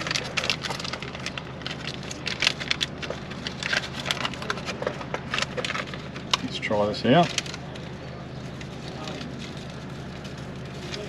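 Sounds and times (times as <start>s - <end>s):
low steady hum: 0.0s - 11.0s
plastic crinkling and clicking: 0.0s - 11.0s.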